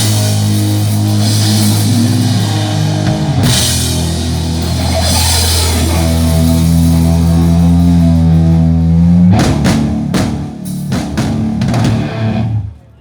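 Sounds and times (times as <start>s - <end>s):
rock band playing: 0.0s - 12.8s.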